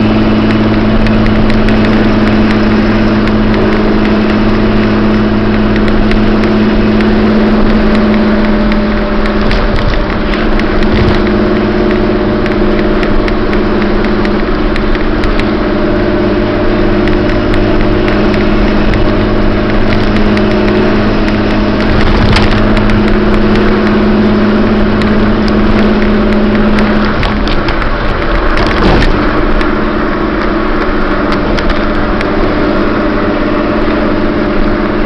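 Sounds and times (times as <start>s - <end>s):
loud exhaust note cruising: 0.0s - 35.0s.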